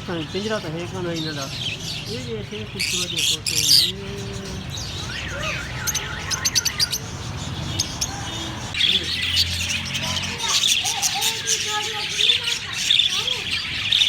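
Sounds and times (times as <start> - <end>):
caged birds chirping and squawking: 0.0 - 14.0.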